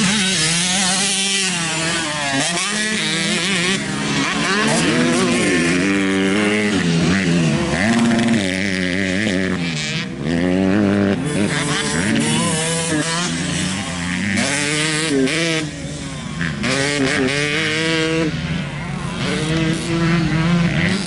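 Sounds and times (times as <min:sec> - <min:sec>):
off-road engines revving: 0:00.0 - 0:21.0.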